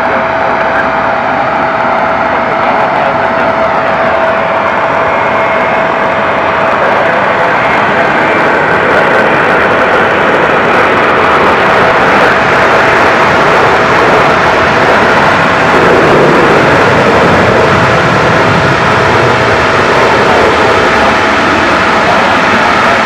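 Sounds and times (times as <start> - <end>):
jet taking off: 0.0 - 23.0.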